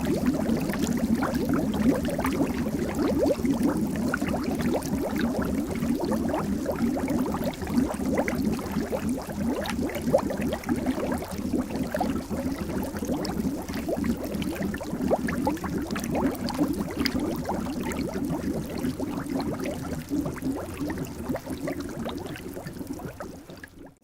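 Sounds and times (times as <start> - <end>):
water bubbling: 0.0 - 24.0.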